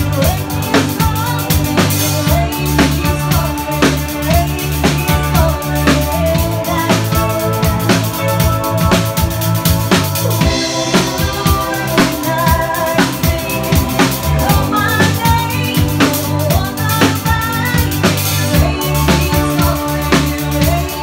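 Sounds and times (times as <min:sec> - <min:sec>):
drum kit beat: 0:00.0 - 0:21.0
rock band playing: 0:00.0 - 0:21.0.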